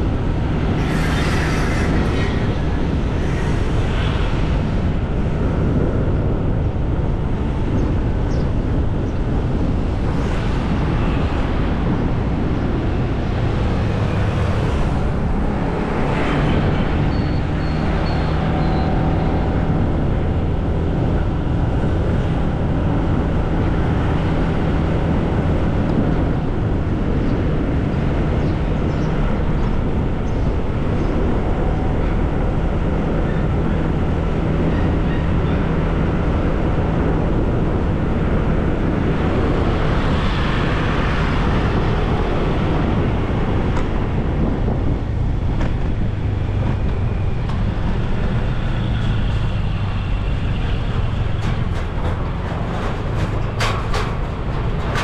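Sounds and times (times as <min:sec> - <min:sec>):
engine hum: 0:00.0 - 0:55.0
street traffic rumble: 0:00.0 - 0:55.0.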